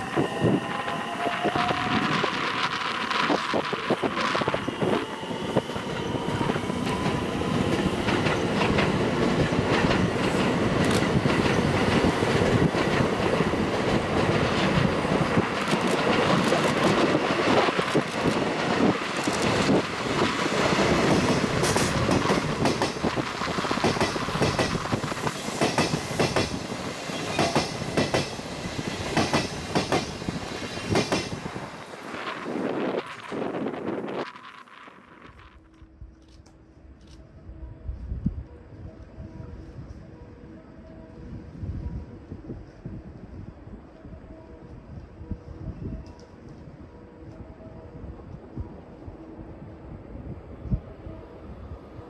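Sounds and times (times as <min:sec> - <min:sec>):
diesel locomotive passing: 0:00.0 - 0:52.0.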